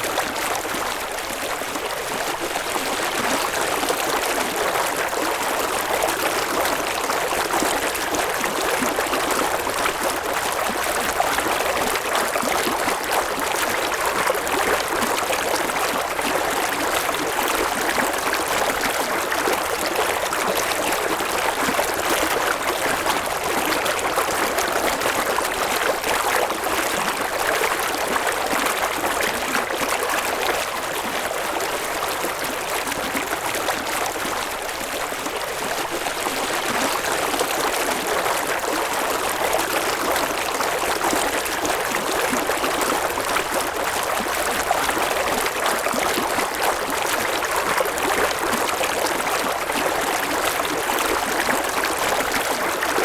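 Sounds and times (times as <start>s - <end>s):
river water babbling over stones: 0.0s - 53.0s.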